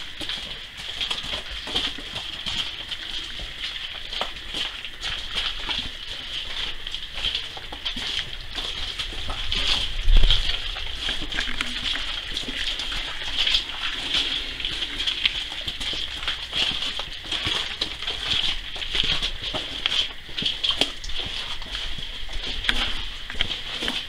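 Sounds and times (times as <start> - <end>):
footsteps scuffing on stone path: 0.0 - 24.0
high-pitched insect chorus: 0.0 - 24.0.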